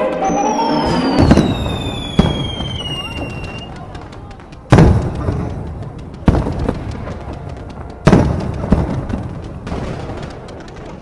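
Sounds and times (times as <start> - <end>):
fireworks booming: 0.4 - 11.0.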